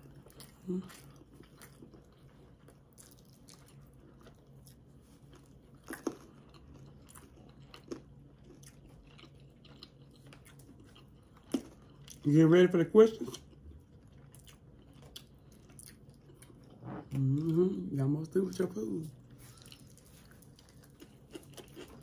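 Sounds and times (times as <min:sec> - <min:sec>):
person chewing: 0:00.0 - 0:12.3, 0:13.2 - 0:22.0.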